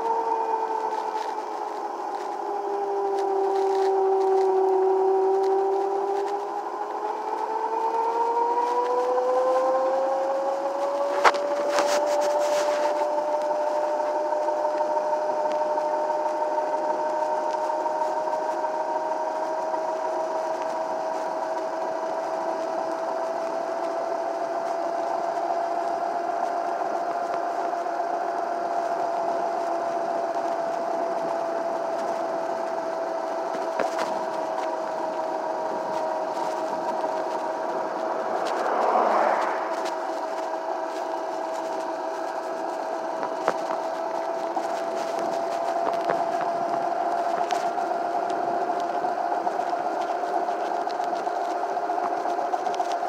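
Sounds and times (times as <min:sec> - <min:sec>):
electric scooter motor whining: 0:00.0 - 0:53.0.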